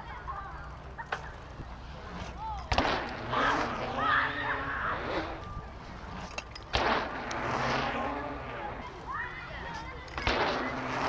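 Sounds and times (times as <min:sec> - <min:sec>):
distant voices: 0:00.0 - 0:11.0.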